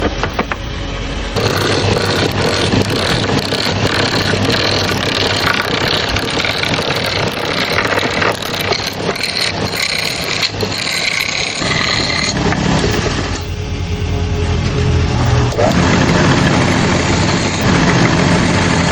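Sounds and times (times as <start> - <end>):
power tool motor whine: 1.4 - 18.9.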